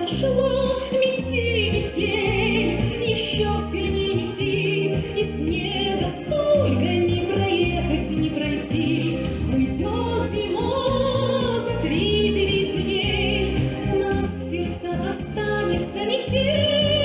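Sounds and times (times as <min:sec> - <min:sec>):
woman singing with vibrato: 0:00.0 - 0:17.0.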